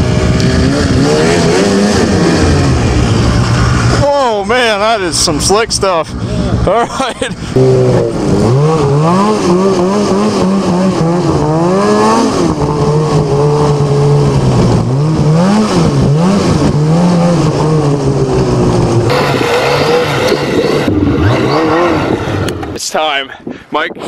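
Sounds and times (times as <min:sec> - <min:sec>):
snowmobile engine revving: 0:00.0 - 0:06.1, 0:06.7 - 0:22.8.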